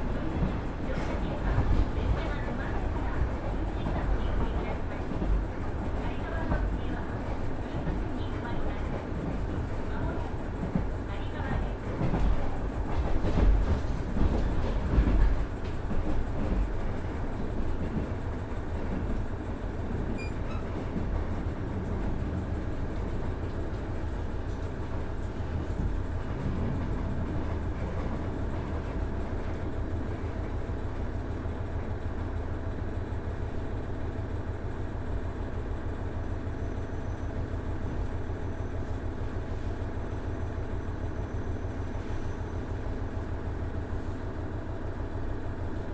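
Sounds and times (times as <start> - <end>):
wheels rumbling on rail: 0.0 - 45.9.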